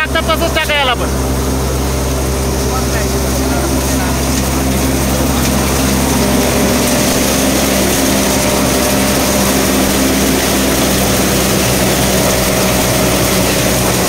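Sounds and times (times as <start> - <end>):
thresher drum and fan humming: 0.0 - 14.0
tractor diesel engine running: 0.0 - 14.0.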